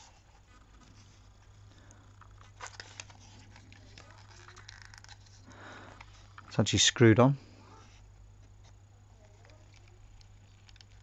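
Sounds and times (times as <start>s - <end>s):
handling rustles and ticks: 0.0s - 7.1s, 7.8s - 11.0s.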